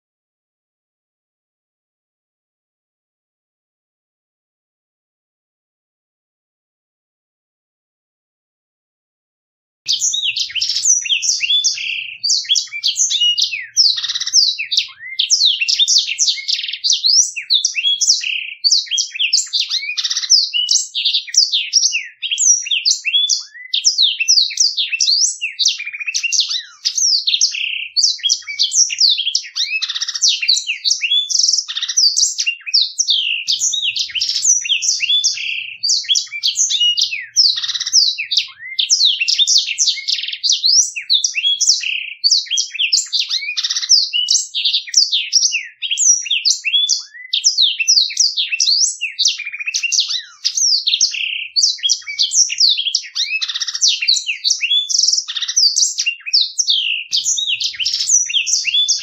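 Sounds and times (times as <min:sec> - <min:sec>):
canary singing trills: 0:09.9 - 0:59.0.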